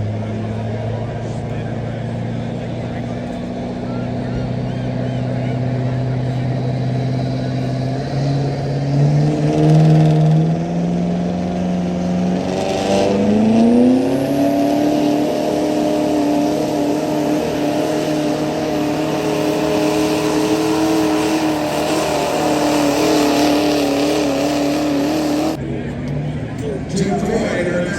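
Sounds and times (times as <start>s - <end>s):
truck engine revving hard: 0.0s - 27.9s.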